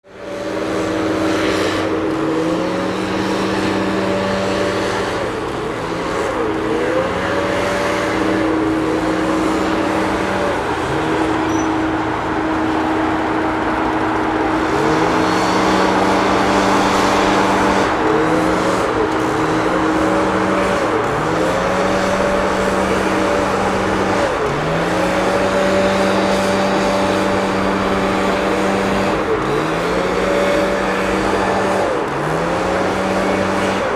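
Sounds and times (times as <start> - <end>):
leaf vacuum engine hum: 0.1 - 33.9.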